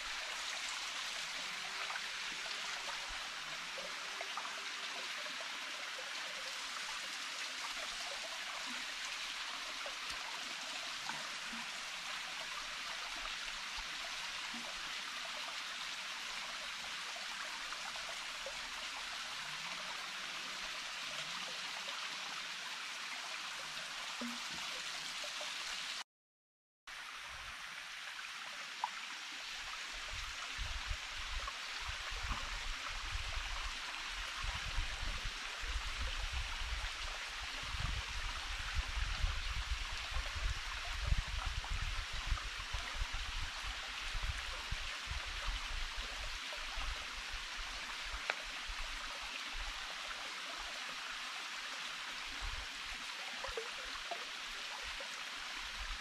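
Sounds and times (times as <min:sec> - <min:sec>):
stream flowing: 0:00.0 - 0:26.0, 0:26.9 - 0:56.0.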